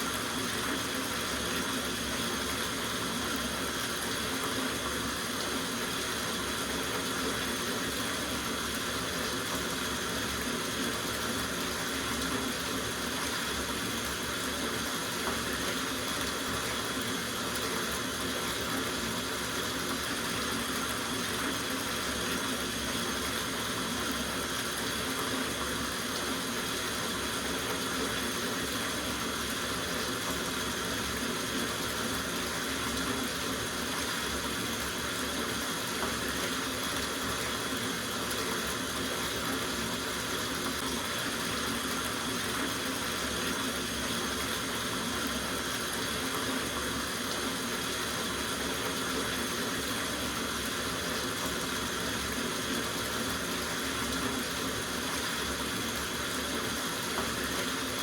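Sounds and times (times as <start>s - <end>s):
tap water running into bathtub: 0.0s - 58.0s.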